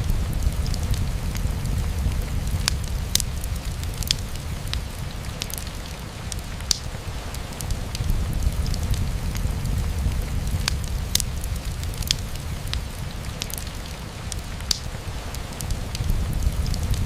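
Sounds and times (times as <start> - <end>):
rain on a window: 0.0 - 17.0
wood fire crackling: 0.0 - 17.0.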